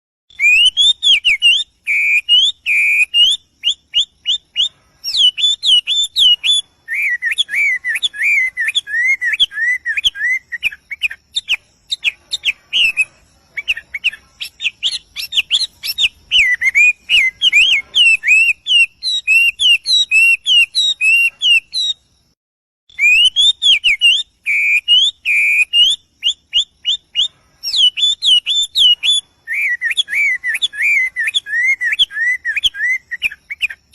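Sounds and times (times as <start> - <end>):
small bird chirping: 0.3 - 33.9.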